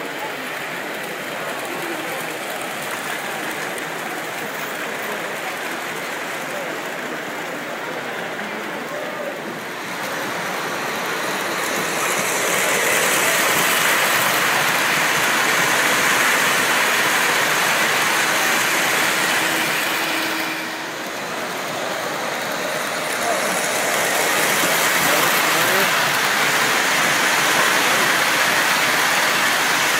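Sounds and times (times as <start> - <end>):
model train rolling: 0.0 - 29.9.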